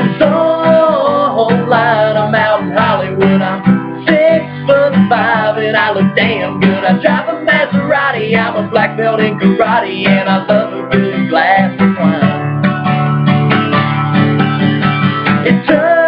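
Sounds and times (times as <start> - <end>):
men singing country song: 0.0 - 12.4, 15.4 - 16.0
acoustic guitar strumming: 0.0 - 16.0.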